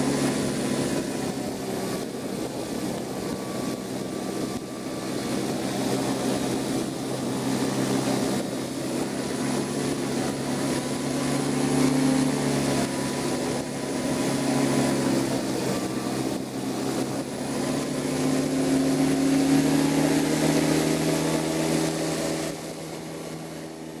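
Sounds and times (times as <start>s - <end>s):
air noise: 0.0s - 24.0s
small aircraft engine humming: 0.0s - 24.0s.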